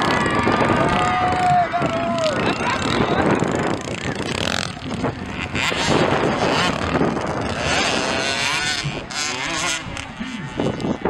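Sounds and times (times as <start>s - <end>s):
two-stroke motocross engines: 0.0s - 11.0s
wind buffeting microphone: 0.0s - 11.0s.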